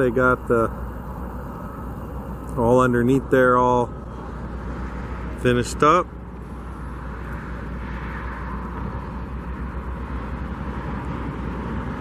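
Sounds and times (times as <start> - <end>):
distant vehicle traffic: 0.0 - 12.0.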